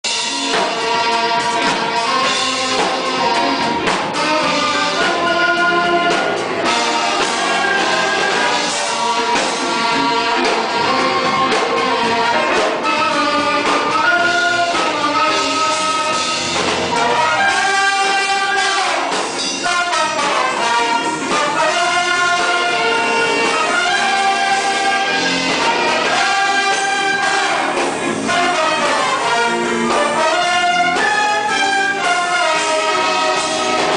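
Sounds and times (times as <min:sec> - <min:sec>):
brass melodic lines: 0:00.0 - 0:33.9
orchestra playing: 0:00.0 - 0:33.9.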